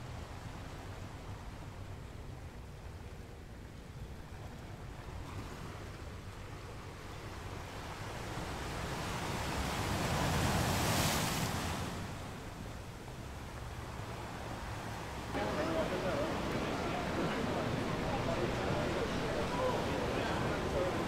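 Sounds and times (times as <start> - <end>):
large waves breaking: 0.0 - 21.0.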